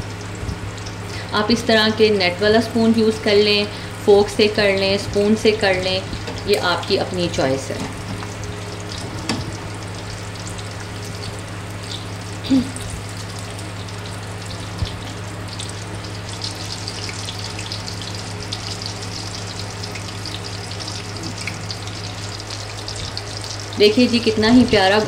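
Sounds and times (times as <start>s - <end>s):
hot oil sizzling and crackling: 0.0s - 25.0s
steady low hum: 0.0s - 25.0s.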